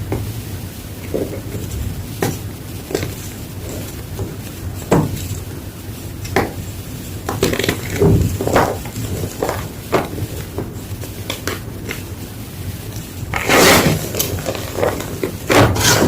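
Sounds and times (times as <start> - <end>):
chalk blocks crunching: 1.0 - 5.6, 7.2 - 16.0.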